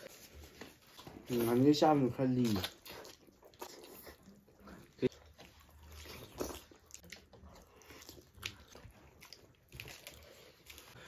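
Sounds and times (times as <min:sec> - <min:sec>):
biting and chewing: 0:00.1 - 0:11.0.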